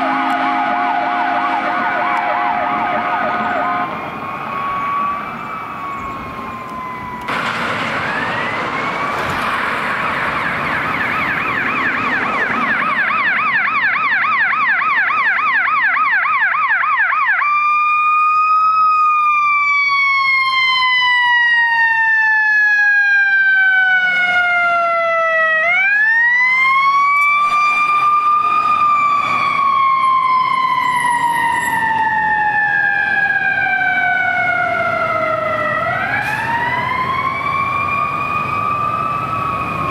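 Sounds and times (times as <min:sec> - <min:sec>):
fire engine siren: 0:00.0 - 0:39.9.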